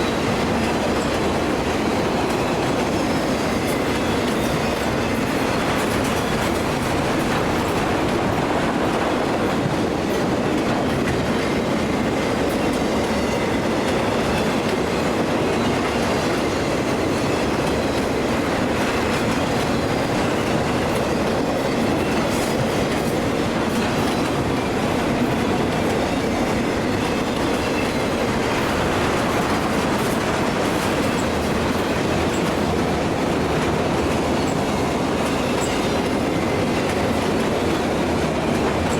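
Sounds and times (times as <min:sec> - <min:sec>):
train wheels rumbling over rails: 0:00.0 - 0:38.9.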